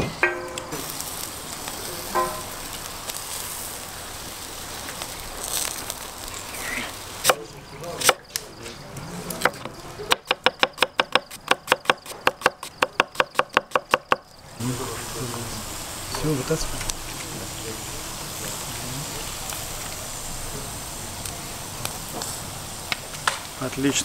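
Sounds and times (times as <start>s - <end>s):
skewers sizzling on grill: 0.0s - 24.0s.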